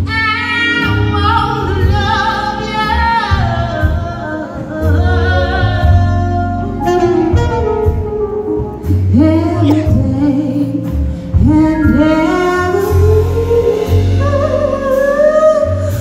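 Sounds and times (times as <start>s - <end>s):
bass line: 0.0s - 16.0s
saxophone: 0.0s - 16.0s
woman singing: 0.0s - 16.0s.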